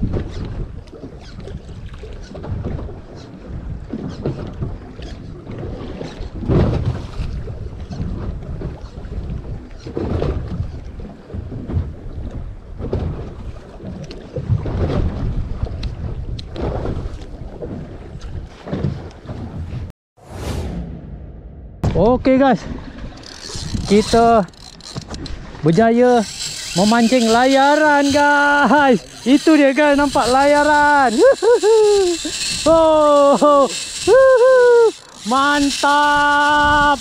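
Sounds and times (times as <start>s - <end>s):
water splashing against boat: 0.0s - 19.9s, 22.4s - 37.0s
wind buffeting microphone: 0.0s - 19.9s, 22.7s - 37.0s.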